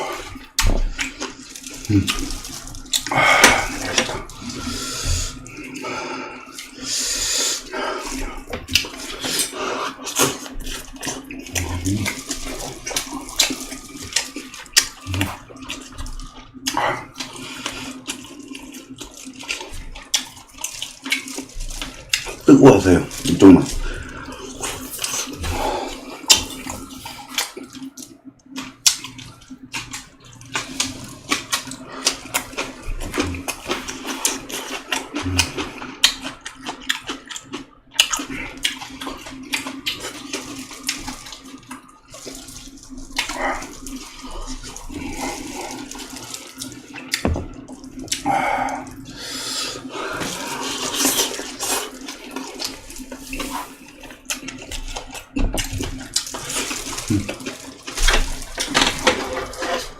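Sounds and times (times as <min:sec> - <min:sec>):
slurping: 0:00.0 - 0:59.9
wet chewing: 0:00.0 - 0:59.9.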